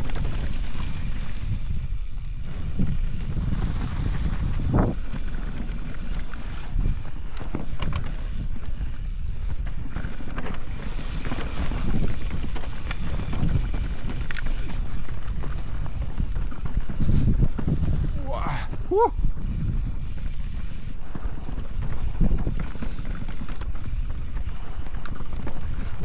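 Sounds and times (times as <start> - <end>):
bike knocks and rattles: 0.0 - 18.2, 19.3 - 26.0
tyres rumbling on trail: 0.0 - 26.0
wind rushing over microphone: 0.0 - 26.0.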